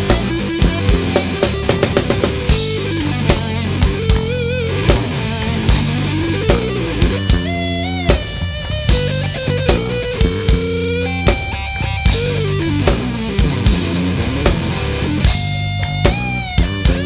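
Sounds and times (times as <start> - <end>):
deep bass line: 0.0 - 17.0
guitar: 0.0 - 17.0
steady drum beat: 0.0 - 17.0.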